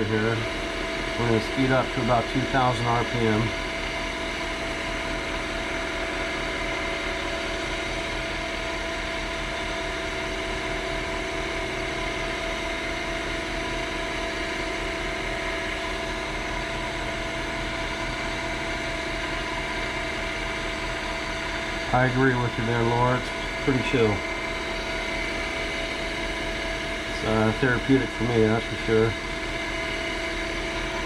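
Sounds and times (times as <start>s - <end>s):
wood lathe motor humming: 0.0s - 31.0s.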